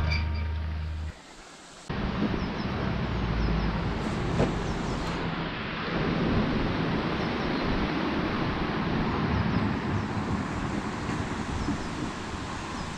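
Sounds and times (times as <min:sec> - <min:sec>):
river rushing over stones: 0:01.2 - 0:12.9.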